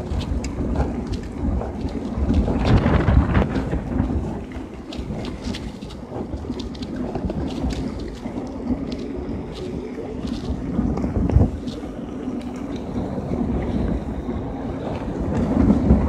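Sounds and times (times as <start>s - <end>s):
bicycle clicks and rattles: 0.0s - 16.0s
tyre noise on wet asphalt: 0.0s - 16.0s
wind buffeting microphone: 0.0s - 16.0s.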